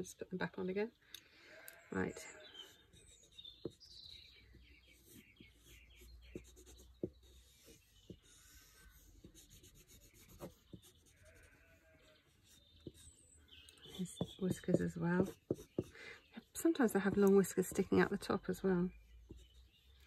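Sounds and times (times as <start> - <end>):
graphite scratching on paper: 2.5 - 13.2, 13.8 - 20.0.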